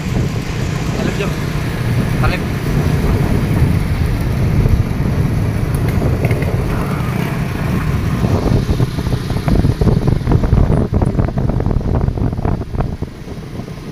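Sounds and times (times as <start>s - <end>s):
motorcycle engine running: 0.0s - 13.9s
wind rushing over microphone: 0.0s - 13.9s.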